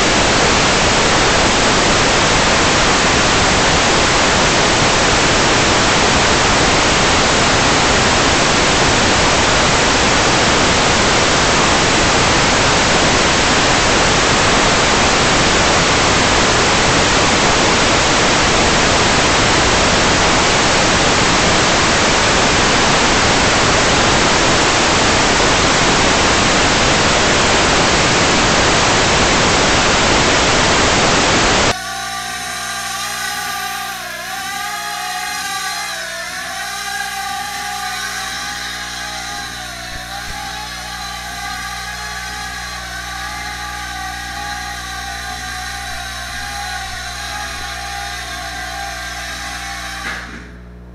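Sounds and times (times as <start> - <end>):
loud static hiss: 0.0 - 50.9.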